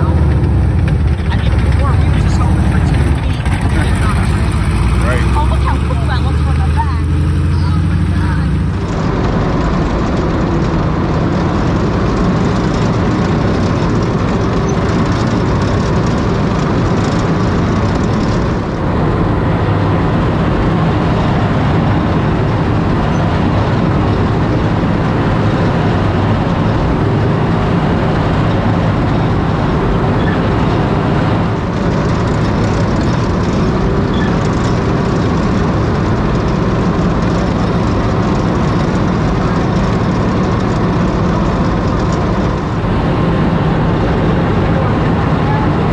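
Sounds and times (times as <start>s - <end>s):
tank radial engine running: 0.0s - 45.9s.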